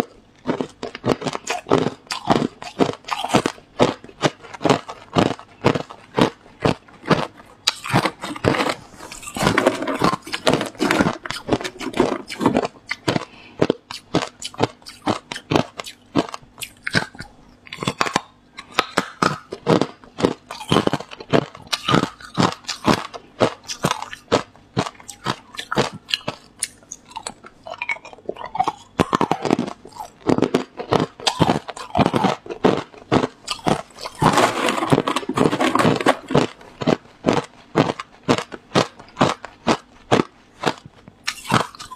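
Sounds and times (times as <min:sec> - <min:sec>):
ice being chewed: 0:00.0 - 0:41.9.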